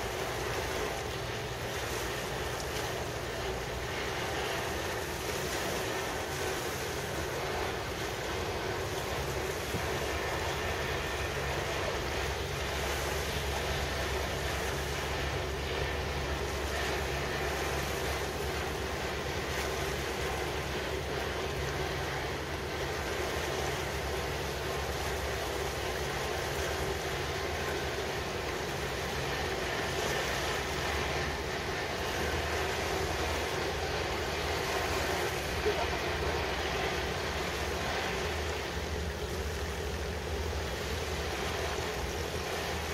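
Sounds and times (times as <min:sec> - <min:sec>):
low engine rumble: 0:00.0 - 0:42.9
water noise: 0:00.0 - 0:42.9
wind: 0:00.0 - 0:42.9.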